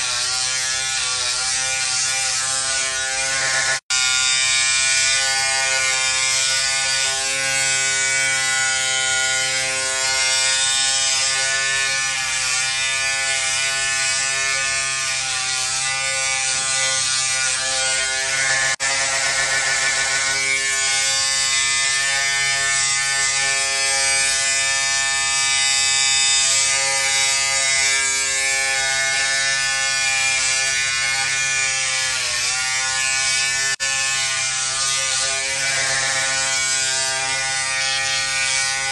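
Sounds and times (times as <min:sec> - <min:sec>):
electric hair clipper buzzing: 0:00.0 - 0:38.9.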